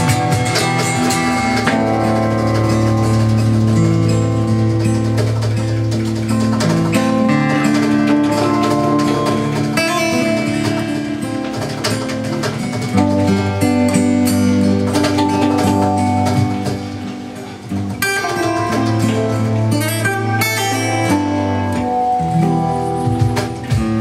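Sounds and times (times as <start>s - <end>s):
acoustic guitar plucked and strummed: 0.0s - 24.0s.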